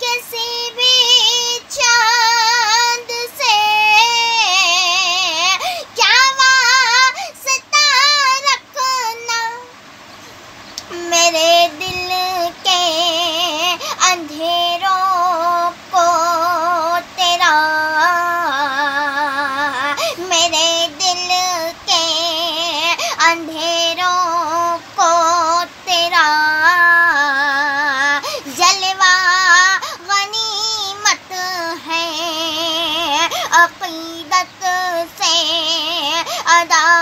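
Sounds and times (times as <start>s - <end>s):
woman singing unaccompanied: 0.0s - 10.0s, 10.6s - 37.0s.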